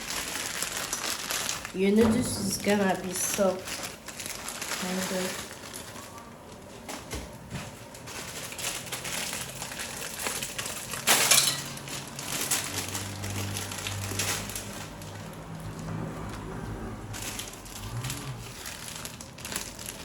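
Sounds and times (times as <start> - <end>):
dry noodles crackling: 0.0 - 20.0
packaging crinkling: 0.0 - 20.0.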